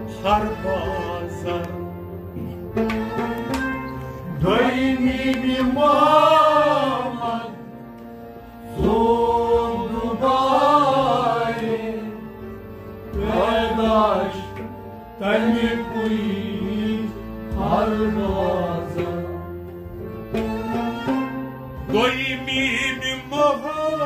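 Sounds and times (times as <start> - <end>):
bowed sarangi melody: 0.0 - 10.1, 11.2 - 24.0
harmonium holding notes: 0.0 - 24.0.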